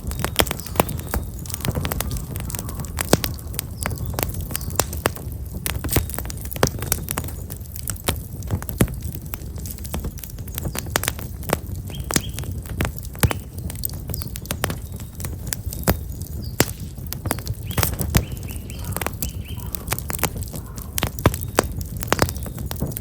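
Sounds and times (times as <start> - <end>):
small birds chirping: 0.0 - 8.4, 9.0 - 23.0
firewood crackling and popping: 0.0 - 23.0.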